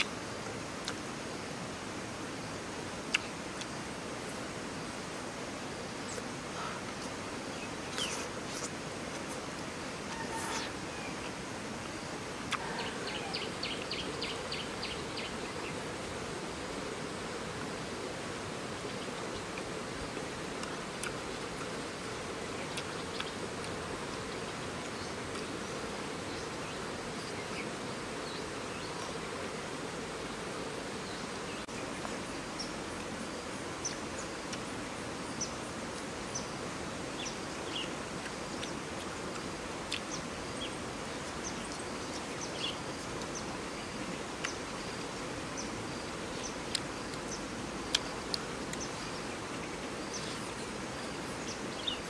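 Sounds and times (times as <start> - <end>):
insects buzzing: 0.0 - 52.0.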